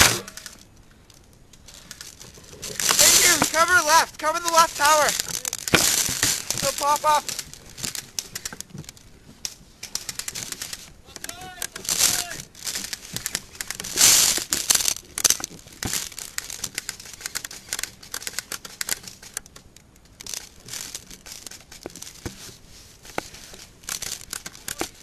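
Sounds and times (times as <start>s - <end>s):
clothing rustling and scraping: 0.0s - 19.4s, 20.0s - 25.0s.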